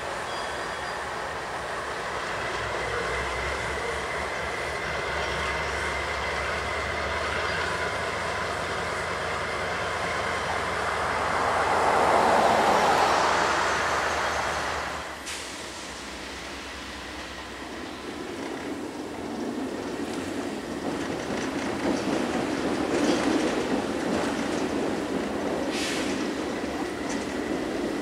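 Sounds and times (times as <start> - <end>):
diesel locomotive rumble: 0.0 - 28.0
train wheel and car noise: 0.0 - 28.0.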